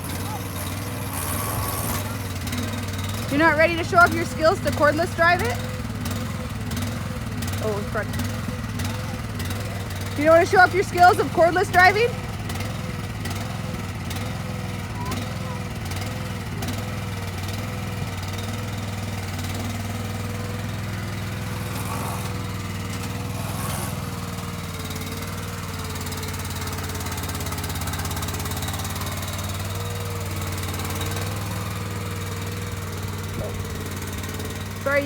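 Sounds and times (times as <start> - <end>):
engine droning steadily: 0.0 - 35.0.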